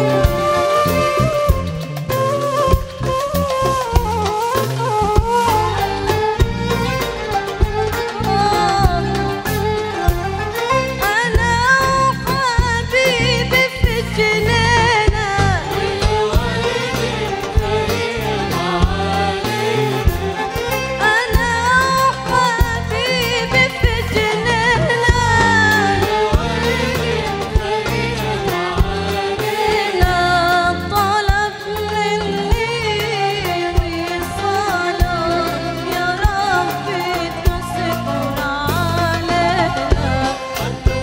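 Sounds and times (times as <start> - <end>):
instrumental accompaniment with percussion: 0.0 - 41.0.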